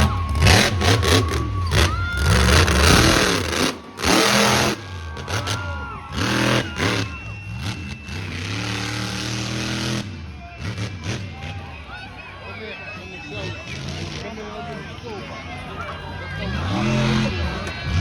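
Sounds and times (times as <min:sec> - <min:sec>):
loud rushes of noise: 0:00.0 - 0:18.0
truck engine revving: 0:00.0 - 0:18.0.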